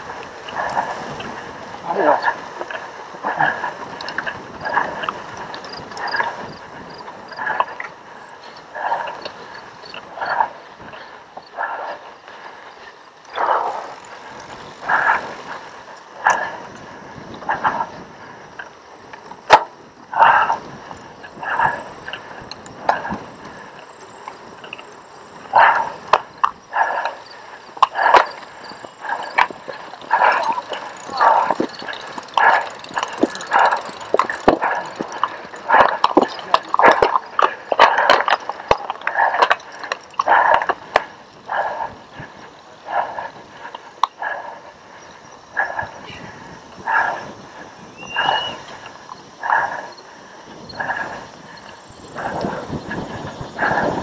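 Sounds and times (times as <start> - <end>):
bike tyres rolling on grass: 0.0 - 54.0
hard rhythmic breathing: 0.0 - 54.0.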